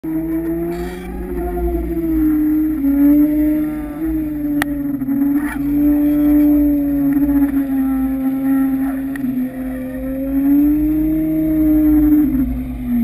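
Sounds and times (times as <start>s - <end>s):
boat motor heard underwater: 0.0s - 13.0s.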